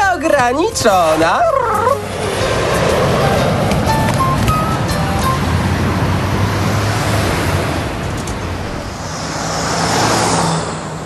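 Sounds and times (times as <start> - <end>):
car engines running: 0.0 - 11.0
car passing by: 0.9 - 11.0.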